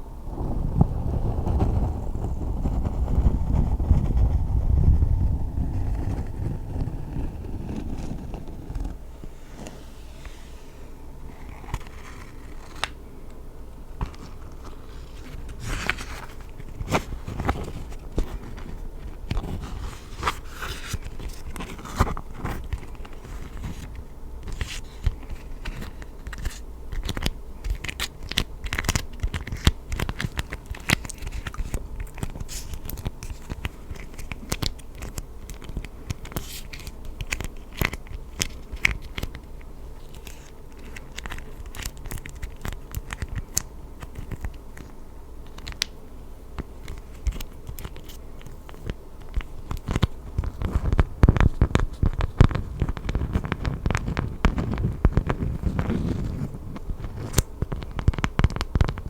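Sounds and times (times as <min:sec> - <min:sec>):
crackling and crinkling: 0:00.0 - 0:59.0
rustling: 0:00.0 - 0:59.0.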